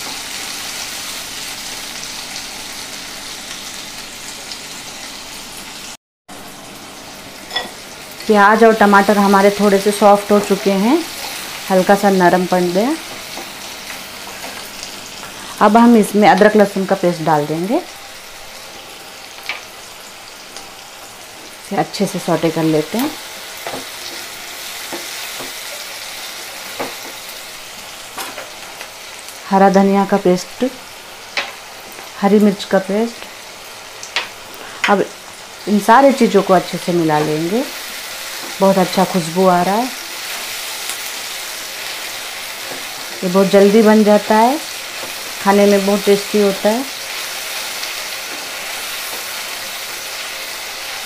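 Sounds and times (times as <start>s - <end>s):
vegetables sizzling in hot oil: 0.0s - 51.0s.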